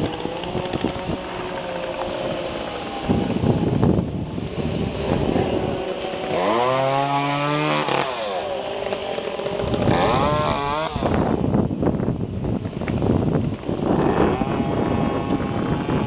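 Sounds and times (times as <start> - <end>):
chainsaw revving: 0.0 - 11.4, 13.5 - 16.0
wind rumbling on microphone: 0.0 - 16.0.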